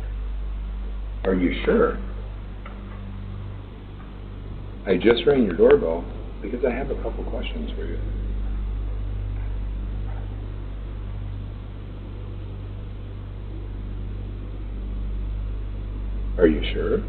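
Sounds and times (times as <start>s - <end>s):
microphone hiss: 0.0s - 17.0s
steady low hum: 0.0s - 17.0s.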